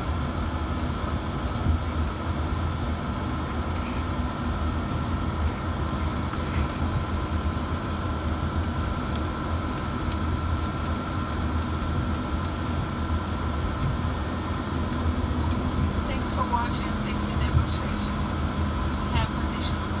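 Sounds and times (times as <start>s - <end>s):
jet engine high whine: 0.0s - 20.0s
jet engines low rumble: 0.0s - 20.0s.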